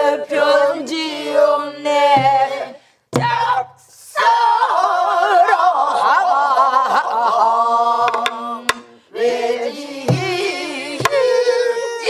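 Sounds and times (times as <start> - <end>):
woman singing with vibrato: 0.0 - 12.0.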